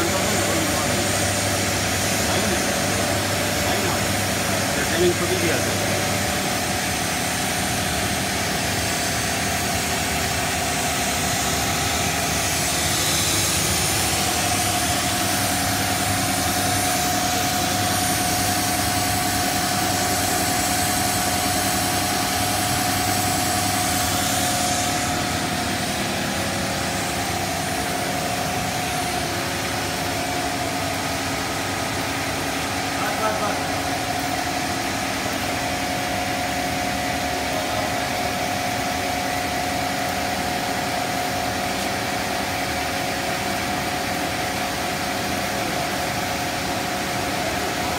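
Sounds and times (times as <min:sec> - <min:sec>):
machine hum with whine: 0:00.0 - 0:47.9.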